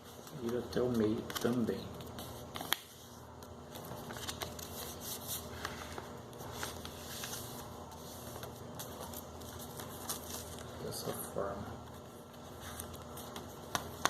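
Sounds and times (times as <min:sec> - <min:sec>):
paper rustling and creasing: 0:00.0 - 0:14.0.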